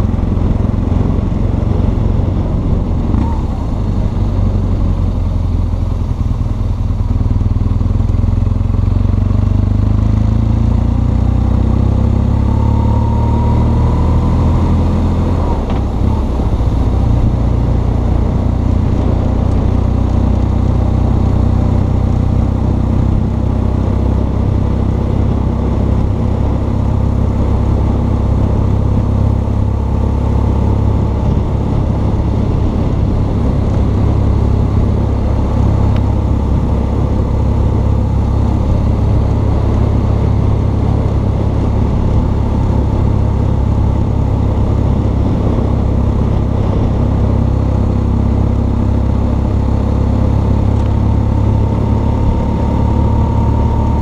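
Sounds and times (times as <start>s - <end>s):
riding wind noise: 0.0s - 8.3s, 12.4s - 54.0s
motorcycle engine cruising: 0.0s - 54.0s.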